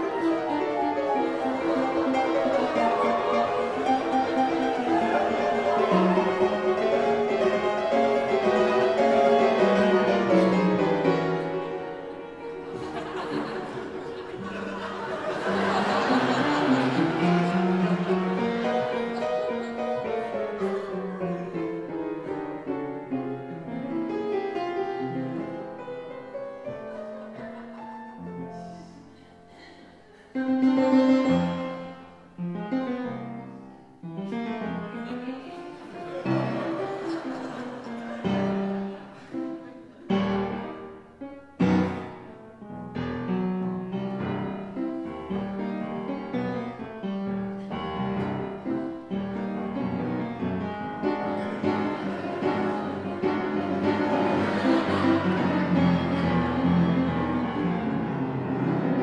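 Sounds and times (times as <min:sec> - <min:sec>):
ragtime piano music: 0:00.0 - 0:29.2, 0:30.3 - 0:59.0.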